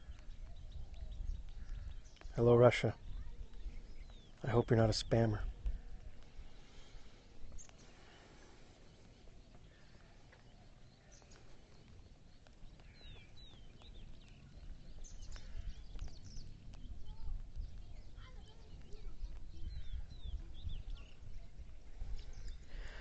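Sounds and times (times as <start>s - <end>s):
wind rumble on microphone: 0.0s - 7.8s, 11.2s - 23.0s.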